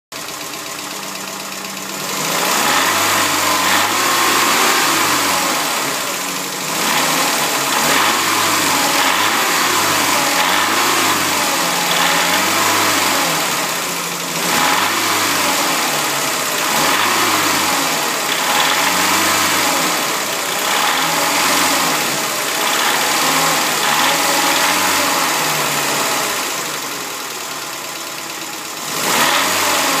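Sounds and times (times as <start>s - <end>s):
car engine idling and revving: 0.1s - 30.0s
engine knock: 0.1s - 30.0s.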